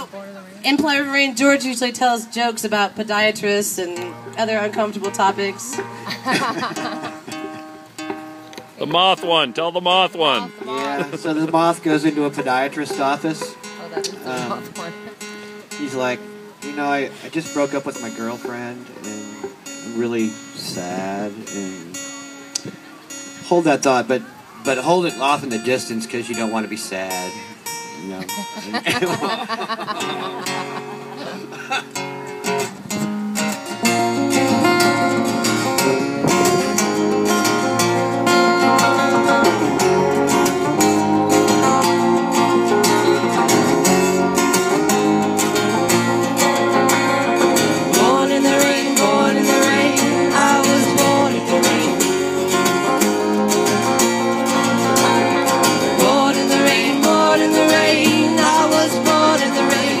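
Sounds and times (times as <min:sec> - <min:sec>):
strummed acoustic guitar: 0:00.0 - 1:00.0.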